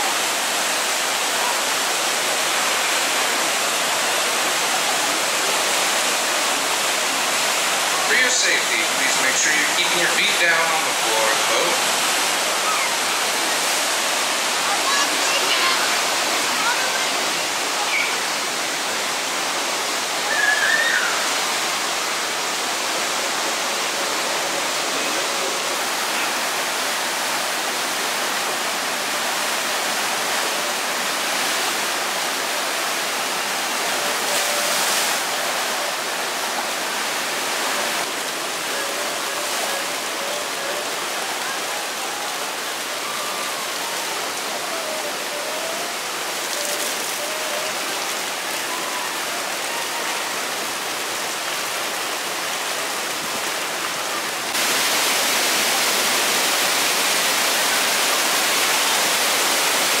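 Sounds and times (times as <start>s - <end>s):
whitewater rushing down channels: 0.0s - 60.0s.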